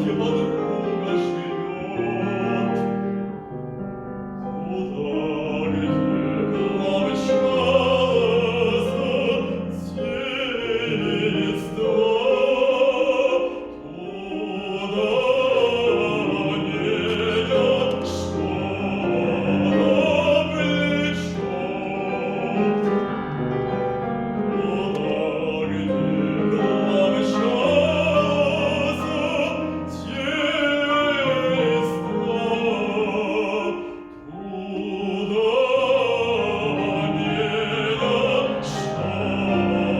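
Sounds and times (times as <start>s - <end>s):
man singing operatically: 0.0s - 3.1s, 4.5s - 23.1s, 24.4s - 39.9s
piano accompaniment: 0.0s - 39.9s.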